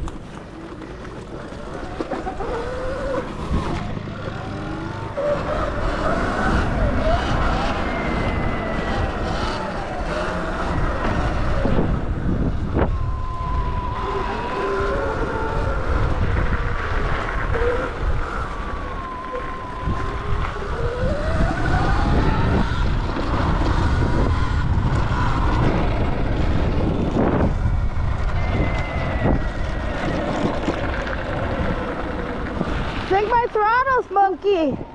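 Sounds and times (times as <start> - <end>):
wind rush on microphone: 0.0 - 34.9
electric motor whine: 1.2 - 33.2.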